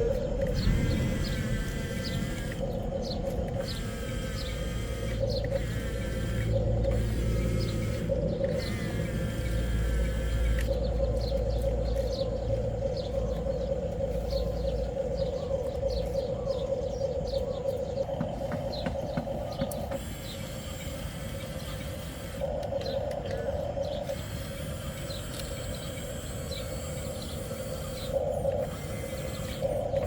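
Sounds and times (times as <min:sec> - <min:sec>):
birds chirping: 0:00.0 - 0:30.0
electric motor whine: 0:00.0 - 0:30.0.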